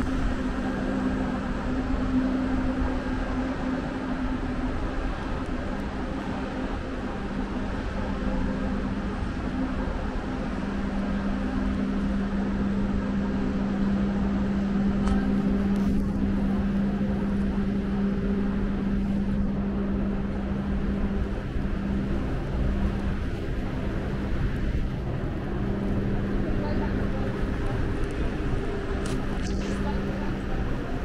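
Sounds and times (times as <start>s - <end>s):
low mechanical hum: 0.0s - 31.0s
low rumble: 0.0s - 31.0s.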